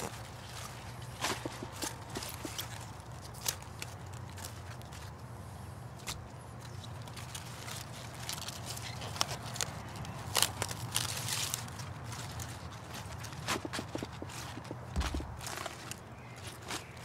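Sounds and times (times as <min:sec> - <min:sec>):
lettuce leaves snapping: 0:00.0 - 0:05.3, 0:05.9 - 0:17.0.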